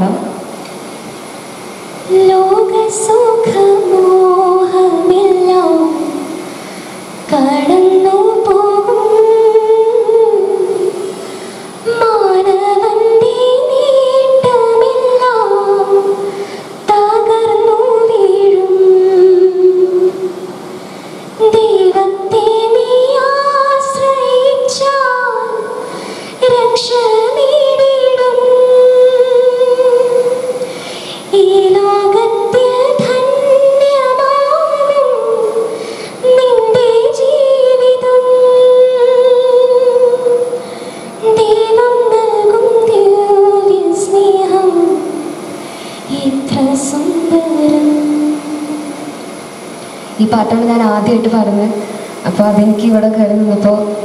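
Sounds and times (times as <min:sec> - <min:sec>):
woman singing unaccompanied: 0:02.0 - 0:06.5, 0:07.2 - 0:11.2, 0:11.8 - 0:20.5, 0:21.4 - 0:49.2, 0:50.1 - 0:54.0.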